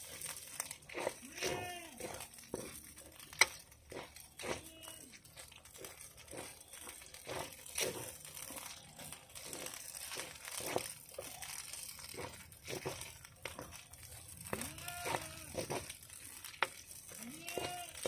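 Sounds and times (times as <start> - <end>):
crinkling and crackling: 0.0 - 18.0.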